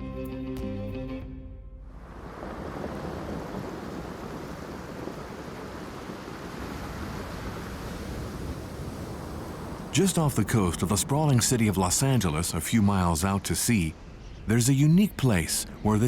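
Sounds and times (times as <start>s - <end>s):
wind: 1.8s - 16.0s
ocean surf: 1.9s - 16.0s.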